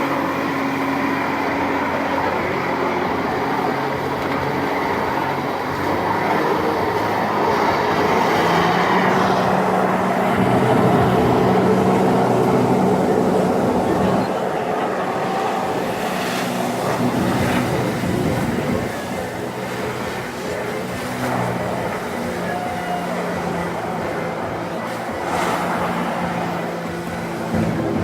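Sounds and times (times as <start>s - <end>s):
engine hum: 0.0s - 28.0s
noisy rumble: 0.0s - 28.0s.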